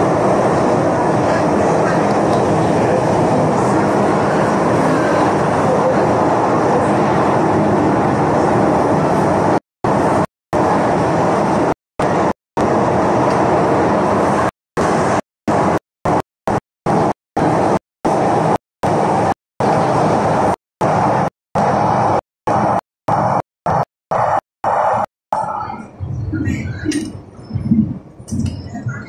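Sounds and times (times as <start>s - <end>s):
moving vehicle rumbling: 0.0s - 29.0s.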